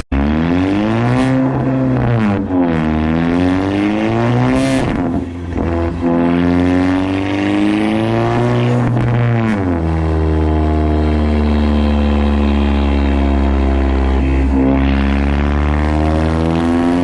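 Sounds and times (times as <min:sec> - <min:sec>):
car engine revving on dyno: 0:00.0 - 0:17.0.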